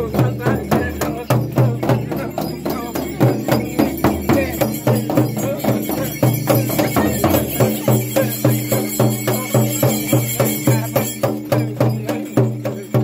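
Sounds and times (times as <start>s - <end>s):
frame drums beaten: 0.0s - 13.0s.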